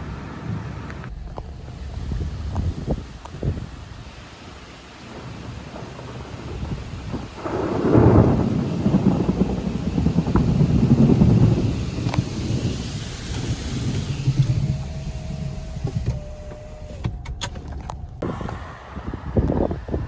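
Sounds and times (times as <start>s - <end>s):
rolling thunder: 0.0s - 20.0s.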